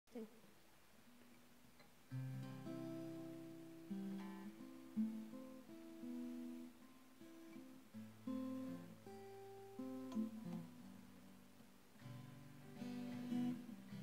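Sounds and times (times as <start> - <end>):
acoustic guitar played slowly: 1.1 - 14.0.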